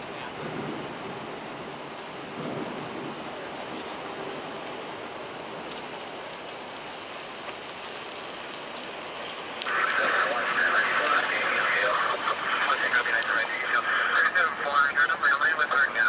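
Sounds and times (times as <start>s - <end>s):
traffic hiss and rumble: 0.0s - 16.0s.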